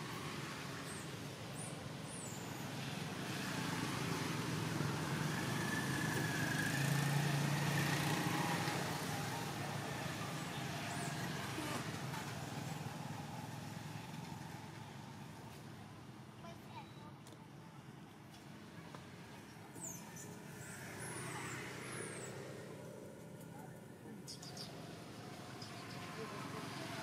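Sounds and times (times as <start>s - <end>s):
engine passing: 0.0s - 15.5s, 19.0s - 27.0s.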